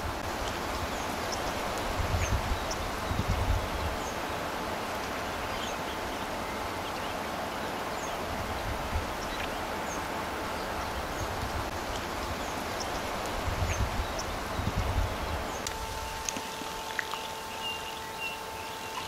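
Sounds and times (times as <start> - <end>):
wind rumble on microphone: 0.0 - 6.4, 8.2 - 17.4
steady hiss: 0.0 - 19.0
small birds chirping: 0.2 - 4.3, 5.0 - 19.0.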